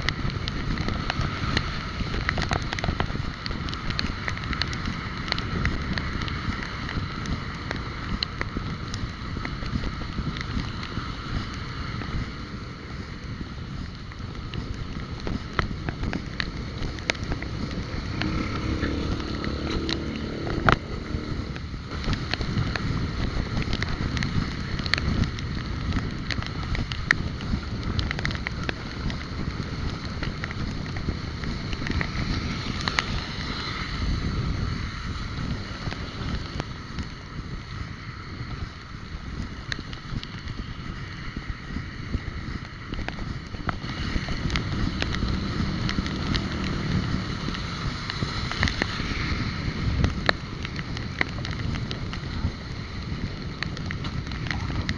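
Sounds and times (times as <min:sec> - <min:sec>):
road and traffic rumble: 0:00.0 - 0:54.9
wind buffeting microphone: 0:00.0 - 0:54.9.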